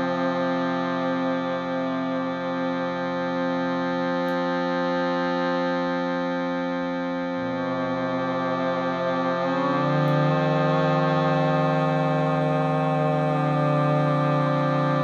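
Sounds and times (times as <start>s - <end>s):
shruti box drone: 0.0s - 15.0s.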